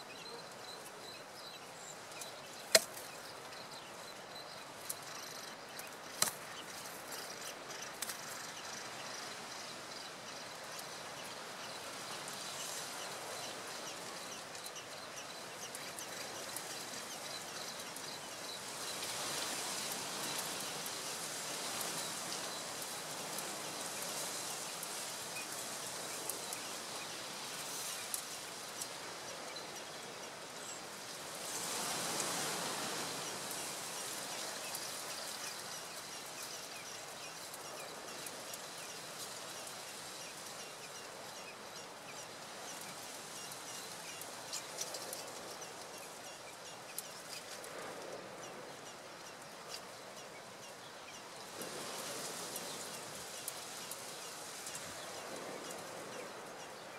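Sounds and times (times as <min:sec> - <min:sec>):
outdoor background hiss: 0:00.0 - 0:56.9.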